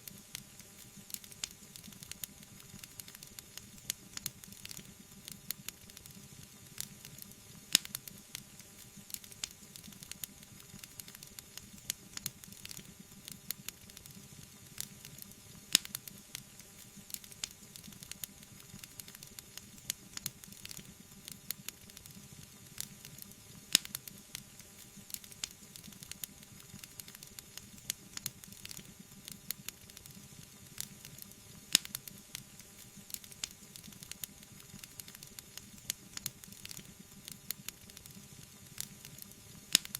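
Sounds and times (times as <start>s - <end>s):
sharp snaps of burning wood: 0.0s - 22.2s, 22.8s - 39.9s
wood fire crackling and hissing: 0.0s - 39.9s.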